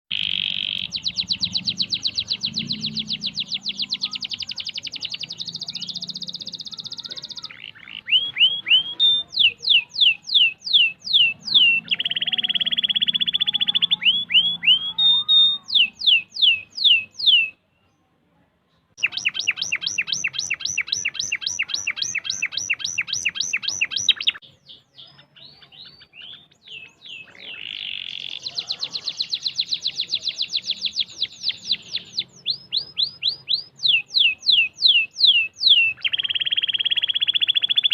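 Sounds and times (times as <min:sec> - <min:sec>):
canary singing trills: 0:00.1 - 0:17.9, 0:19.0 - 0:37.9.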